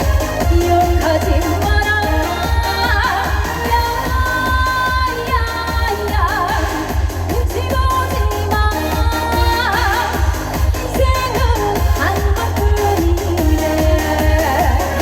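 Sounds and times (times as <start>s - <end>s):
backing track with heavy bass beat: 0.0s - 15.0s
woman singing: 0.2s - 15.0s.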